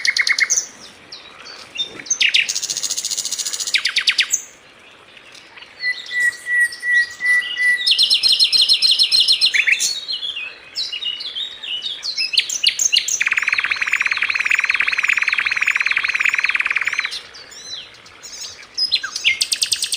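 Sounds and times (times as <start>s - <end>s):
songbird singing with trills: 0.0s - 19.9s.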